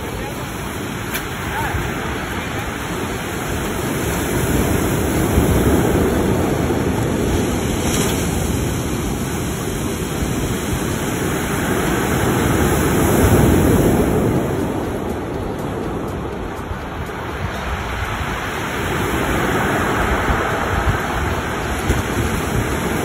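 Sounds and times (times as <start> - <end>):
surf breaking on pebble beach: 0.0 - 14.9, 17.6 - 23.0.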